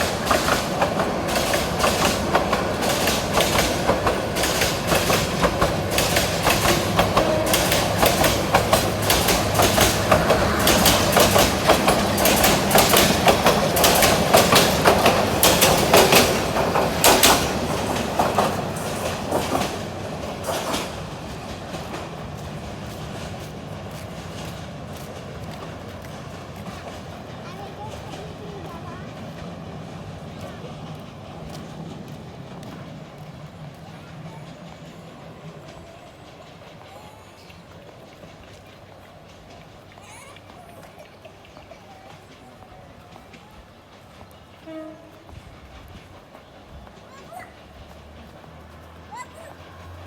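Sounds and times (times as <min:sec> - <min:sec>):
train wheels clattering over joints: 0:00.0 - 0:50.0.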